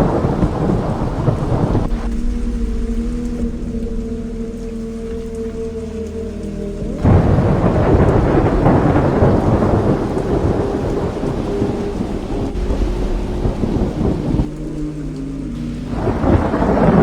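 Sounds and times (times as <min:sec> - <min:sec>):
rain hissing: 0:00.0 - 0:17.0
thunder rumbling: 0:00.0 - 0:17.0.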